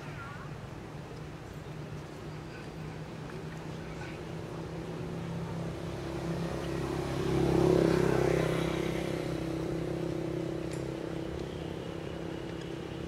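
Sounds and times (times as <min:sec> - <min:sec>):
vehicle engine humming: 0:01.3 - 0:13.0.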